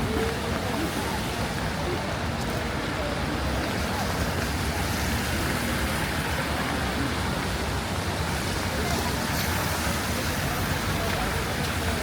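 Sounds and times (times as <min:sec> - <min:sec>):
faint voices: 0:00.0 - 0:12.0
rain: 0:00.0 - 0:12.0
traffic on wet street: 0:00.0 - 0:12.0.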